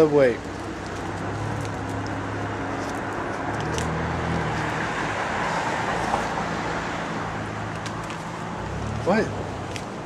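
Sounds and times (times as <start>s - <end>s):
street traffic noise: 0.0s - 10.0s
vehicle engine hum: 0.0s - 10.0s.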